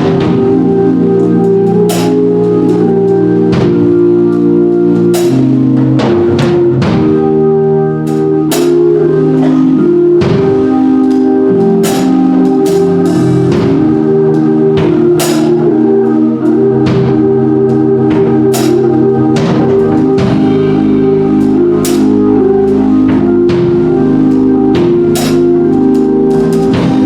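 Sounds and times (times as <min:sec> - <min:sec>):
drum and cymbal hits: 0:00.0 - 0:07.4, 0:08.1 - 0:15.8, 0:16.8 - 0:27.0
gospel band playing: 0:00.0 - 0:27.0
organ chords: 0:00.0 - 0:27.0.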